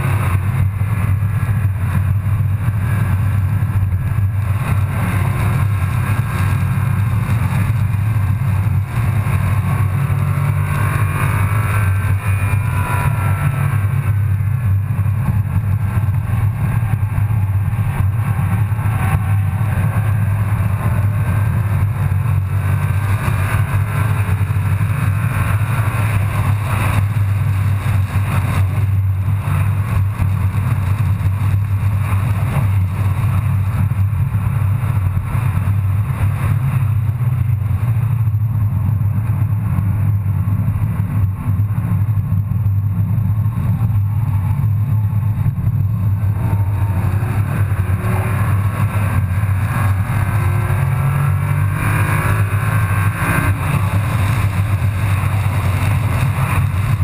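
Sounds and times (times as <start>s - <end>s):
car engine under hard driving: 0.0s - 57.0s.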